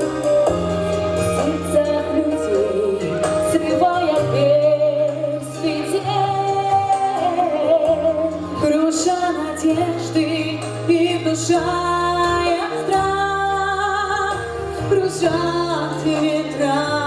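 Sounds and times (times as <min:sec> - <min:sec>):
musical accompaniment with bass: 0:00.0 - 0:17.0.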